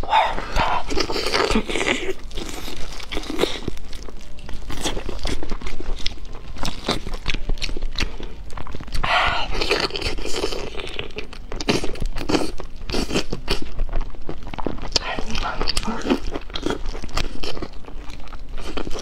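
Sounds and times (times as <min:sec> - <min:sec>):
close-miked eating: 0:00.0 - 0:19.0.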